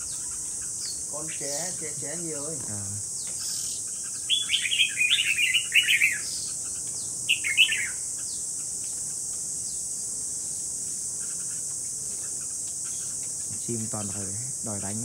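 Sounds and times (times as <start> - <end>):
birds singing: 0.0 - 15.0
high-pitched insect drone: 0.0 - 15.0.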